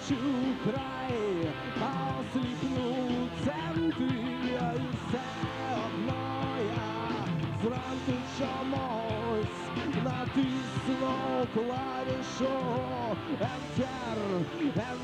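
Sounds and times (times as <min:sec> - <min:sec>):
man singing: 0:00.0 - 0:15.0
rock band playing: 0:00.0 - 0:15.0.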